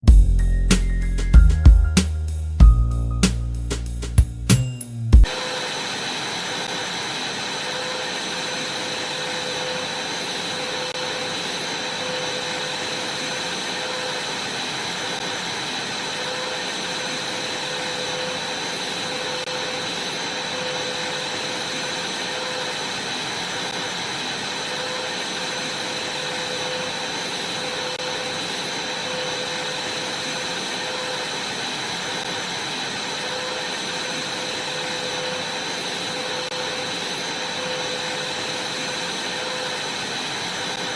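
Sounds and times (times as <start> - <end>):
vacuum cleaner running: 5.3 - 40.9.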